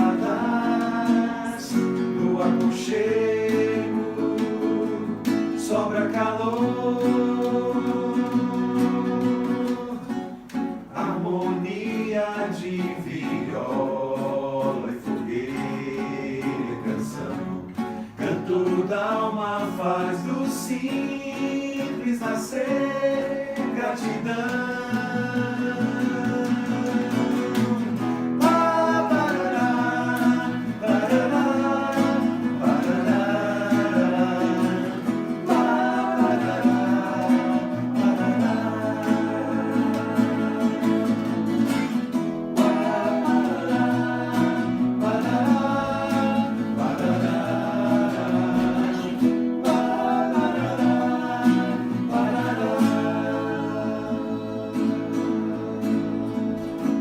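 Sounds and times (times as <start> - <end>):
person singing: 0.0 - 57.0
plucked acoustic guitar chords: 0.0 - 57.0.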